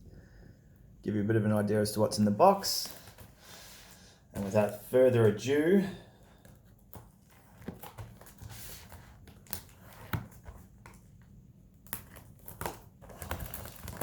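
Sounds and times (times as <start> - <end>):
cardboard and wrapping rustling: 2.4 - 14.0.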